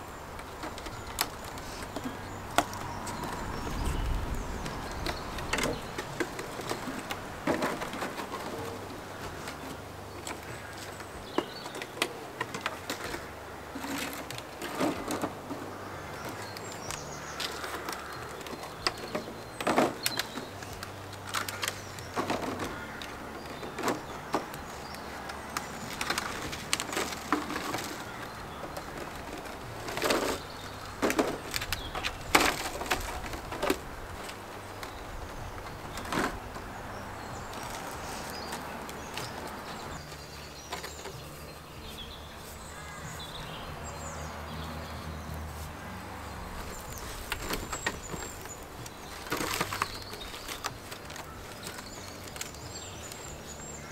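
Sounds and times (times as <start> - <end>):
birds calling: 0.0 - 53.9
plastic trays clattering and crinkling: 0.0 - 53.9.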